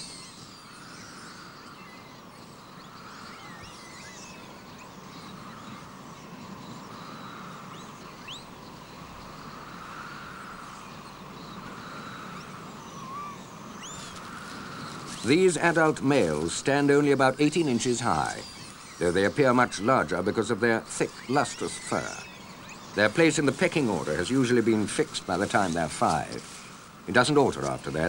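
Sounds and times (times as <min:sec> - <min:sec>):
high bird chirps: 0:00.0 - 0:28.0
steady hiss: 0:00.0 - 0:28.0.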